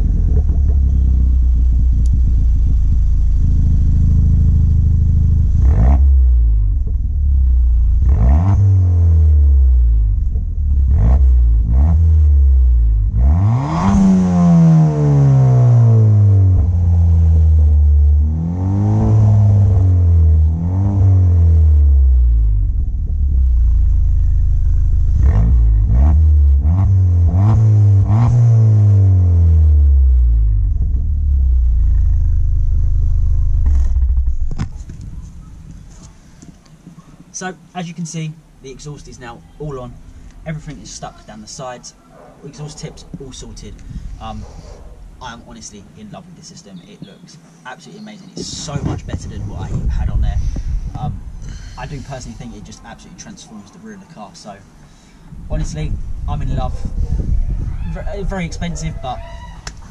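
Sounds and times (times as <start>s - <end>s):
car engine idling and revving: 0.0s - 37.3s, 42.4s - 47.2s, 48.4s - 59.9s.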